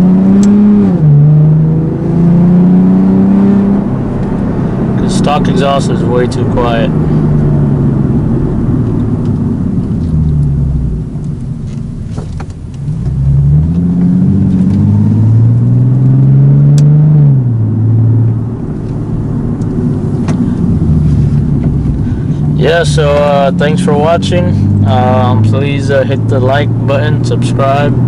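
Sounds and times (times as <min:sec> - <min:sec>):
loud car engine through exhaust: 0:00.0 - 0:28.0.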